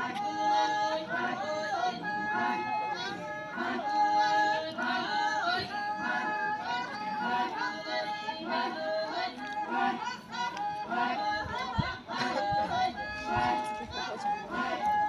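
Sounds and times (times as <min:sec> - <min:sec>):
women singing a folk song: 0:00.0 - 0:15.0.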